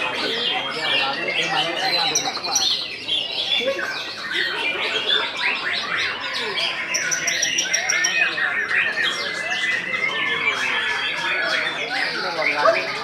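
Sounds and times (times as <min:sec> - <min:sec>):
bird singing whistles and chatter: 0:00.0 - 0:13.0
other birds singing: 0:00.0 - 0:13.0.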